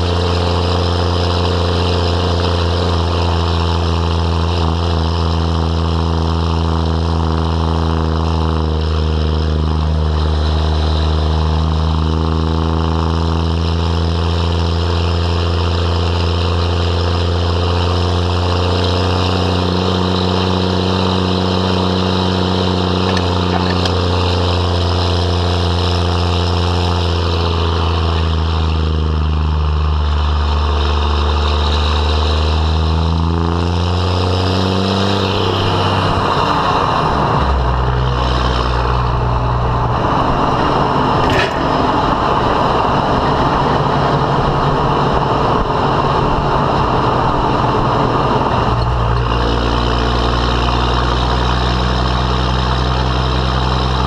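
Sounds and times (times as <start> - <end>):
diesel engine droning under load: 0.0 - 54.0.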